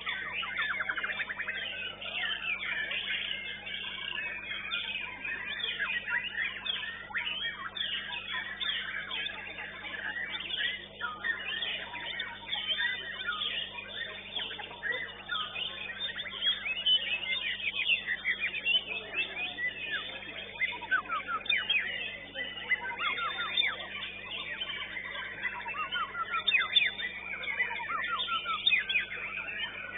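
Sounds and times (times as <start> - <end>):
birds whistling and trilling: 0.0 - 29.9.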